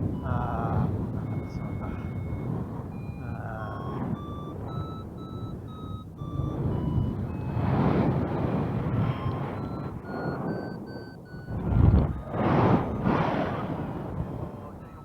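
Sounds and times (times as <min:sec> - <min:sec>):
variometer beeping: 0:00.0 - 0:15.0
wind over microphone: 0:00.0 - 0:15.0.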